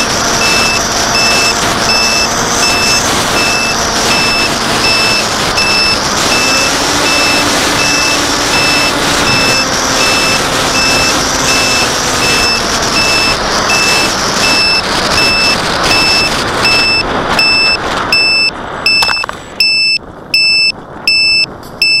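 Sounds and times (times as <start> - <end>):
wind buffeting microphone: 0.0 - 21.9
electronic warning beeps: 0.0 - 22.0.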